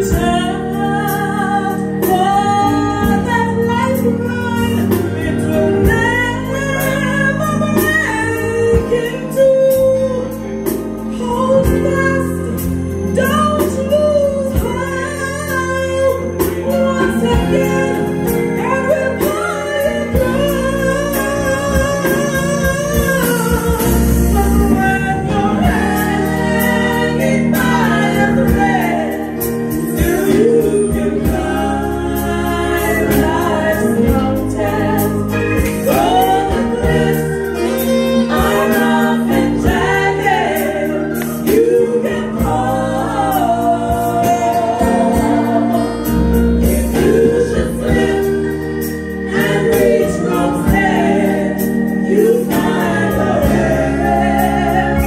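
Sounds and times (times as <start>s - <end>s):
instrumental accompaniment: 0.0s - 55.0s
women singing gospel in harmony: 0.0s - 55.0s.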